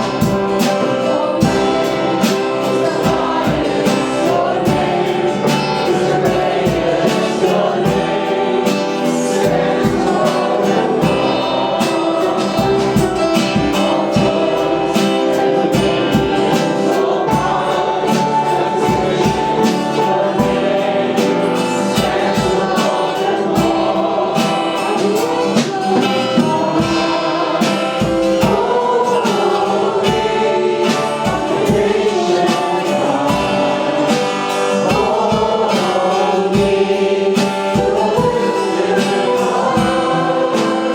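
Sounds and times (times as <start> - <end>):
group singing worship music: 0.0 - 40.9
percussive beat: 0.0 - 40.9.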